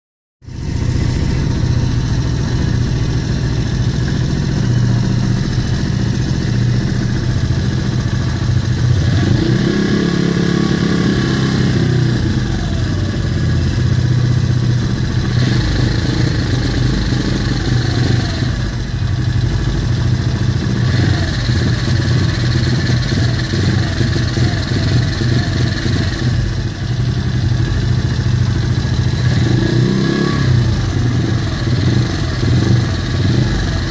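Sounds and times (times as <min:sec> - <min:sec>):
engine sputtering: 0:00.4 - 0:33.9
motorcycle engine revving: 0:00.4 - 0:33.9.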